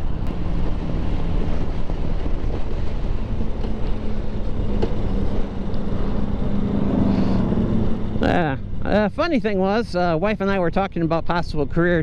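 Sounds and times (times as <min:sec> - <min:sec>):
wind buffeting microphone: 0:00.0 - 0:10.1
motorcycle engine hum: 0:00.0 - 0:12.0.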